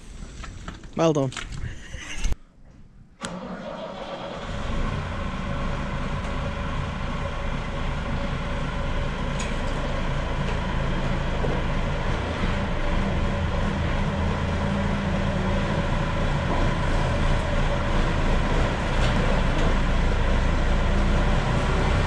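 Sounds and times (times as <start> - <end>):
diesel engine starting and running: 3.1 - 22.0.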